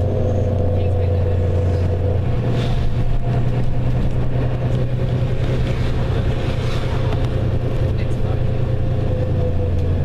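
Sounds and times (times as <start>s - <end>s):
bus engine drone: 0.0s - 10.0s.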